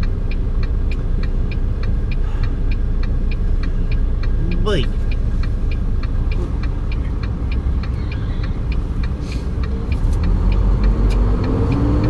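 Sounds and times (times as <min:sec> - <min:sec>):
light regular ticking: 0:00.0 - 0:12.0
truck engine and road rumble: 0:00.0 - 0:12.0.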